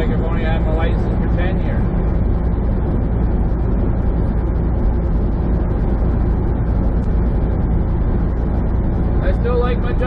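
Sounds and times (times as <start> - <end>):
truck engine and tyre drone: 0.0 - 10.0.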